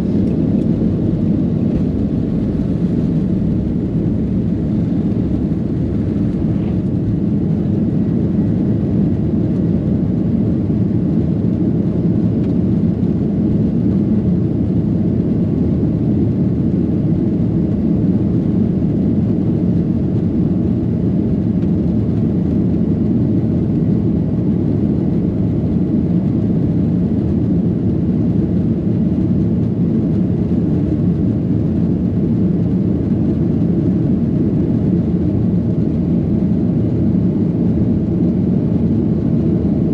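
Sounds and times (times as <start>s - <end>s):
airliner engines and airflow rumble: 0.0s - 39.9s.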